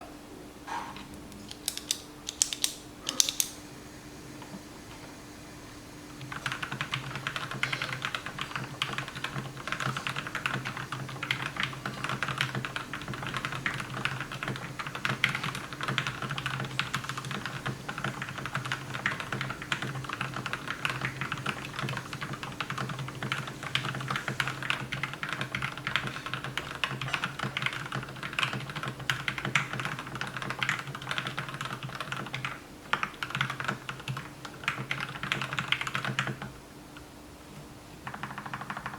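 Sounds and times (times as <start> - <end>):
mechanical keyboard typing: 1.4 - 3.6, 6.2 - 36.5, 38.0 - 38.9.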